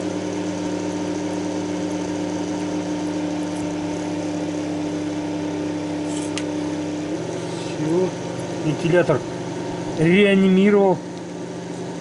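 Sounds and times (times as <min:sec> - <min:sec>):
cooling fan humming: 0:00.0 - 0:12.0.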